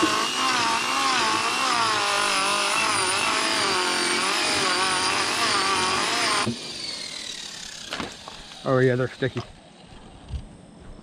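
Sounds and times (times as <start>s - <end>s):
electric motor whine: 0.0s - 10.6s.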